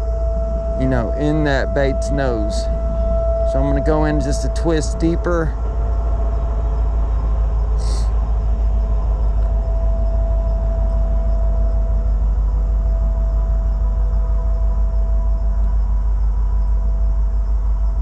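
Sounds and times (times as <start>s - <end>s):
faint hum: 0.0s - 18.0s
low rumble: 0.0s - 18.0s.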